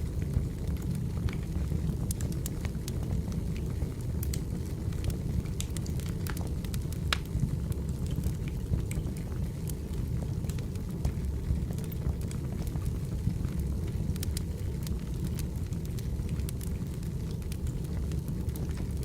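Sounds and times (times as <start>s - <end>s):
firewood crackling and popping: 0.0s - 19.0s
low rumble of flames: 0.0s - 19.0s.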